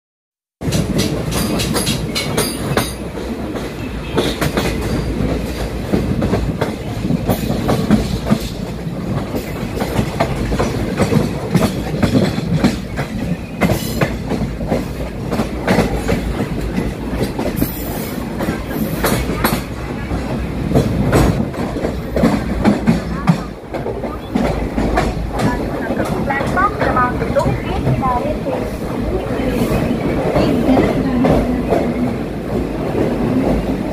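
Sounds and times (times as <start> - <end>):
train wheels rumbling: 0.6 - 33.9
wheels clacking over rail joints: 0.6 - 33.9.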